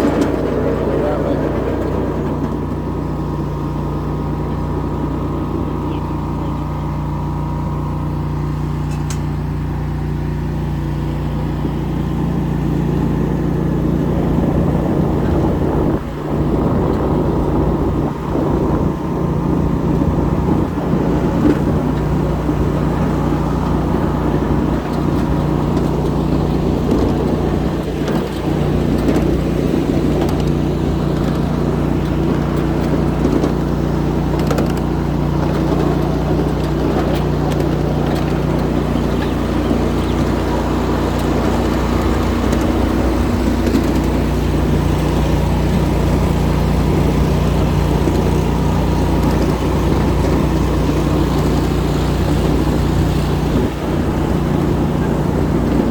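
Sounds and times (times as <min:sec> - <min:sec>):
miniature train rumbling on track: 0:00.0 - 0:55.9.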